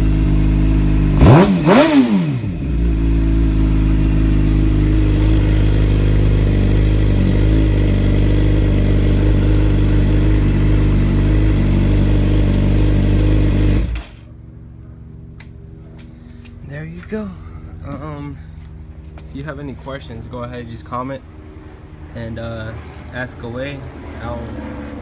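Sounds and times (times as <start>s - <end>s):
engine rev: 0.0s - 14.4s, 16.8s - 25.0s
motorcycle engine idling: 0.0s - 22.3s.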